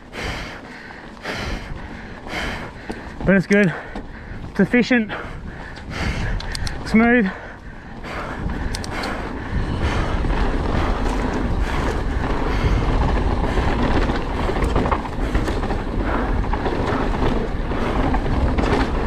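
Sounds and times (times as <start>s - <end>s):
bike clattering over bumps: 0.0s - 19.0s
bike tyres rumbling over dirt: 0.0s - 19.0s
wind noise on microphone: 0.0s - 19.0s.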